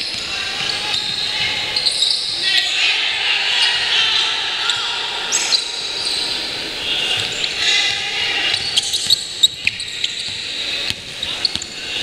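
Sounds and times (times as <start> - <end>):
players shouting: 0.0 - 12.0
sneakers squeaking: 0.0 - 12.0.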